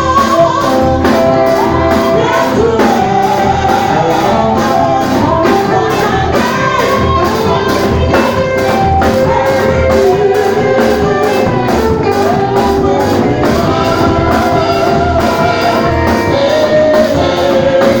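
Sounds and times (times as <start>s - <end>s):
drum kit beat: 0.0s - 18.0s
guitar: 0.0s - 18.0s
keyboard: 0.0s - 18.0s
voices singing: 0.0s - 18.0s.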